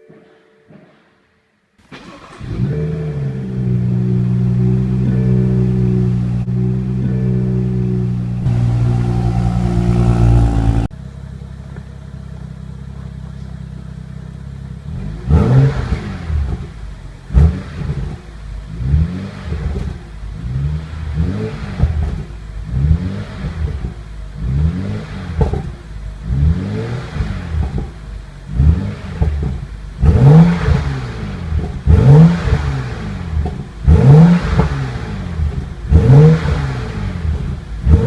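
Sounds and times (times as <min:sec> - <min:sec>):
car engine idling and revving: 0:02.0 - 0:38.0.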